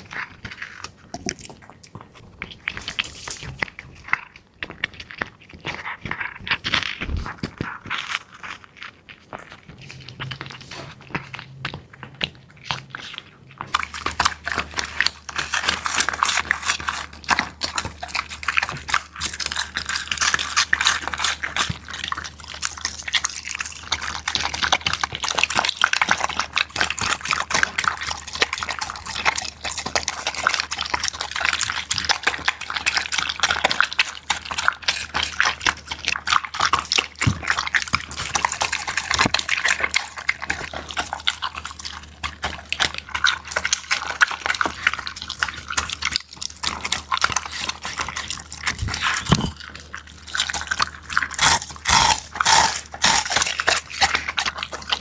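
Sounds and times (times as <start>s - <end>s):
dog lapping and slurping food: 0.0s - 55.0s.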